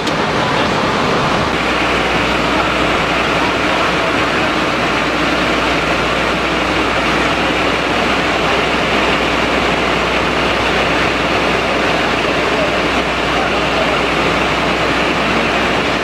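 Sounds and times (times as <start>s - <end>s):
fire truck engine running: 0.0s - 16.0s.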